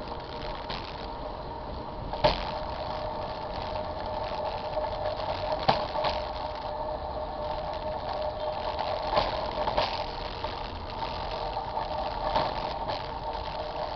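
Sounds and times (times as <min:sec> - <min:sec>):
low road rumble: 0:00.0 - 0:13.9
steady mechanical hum: 0:00.0 - 0:13.9.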